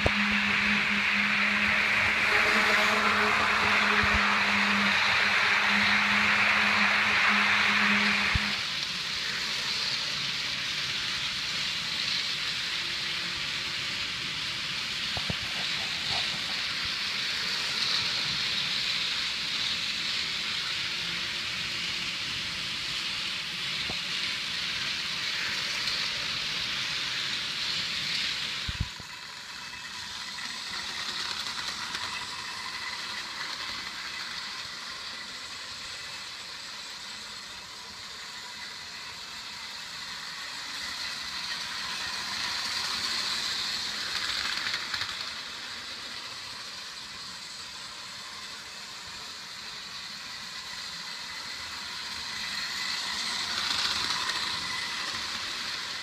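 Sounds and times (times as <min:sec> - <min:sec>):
model locomotive motor hum: 0:00.0 - 0:56.0
model trains whirring on rails: 0:00.0 - 0:56.0.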